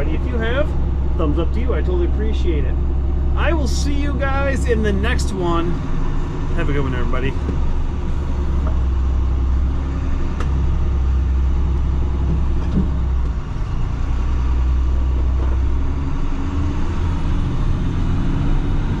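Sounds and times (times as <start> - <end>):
heavy vehicle engine droning: 0.0 - 19.0.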